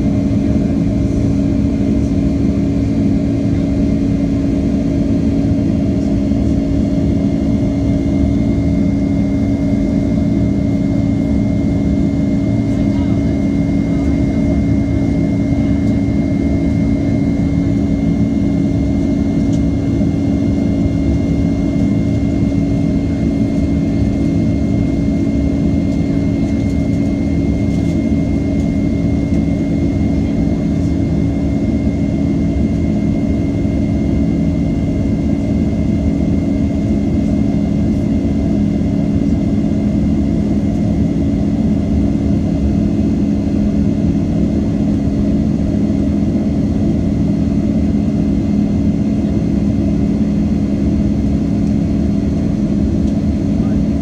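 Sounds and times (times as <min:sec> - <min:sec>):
jet engines droning in cabin: 0:00.0 - 0:54.0
thin steady whine: 0:00.0 - 0:54.0.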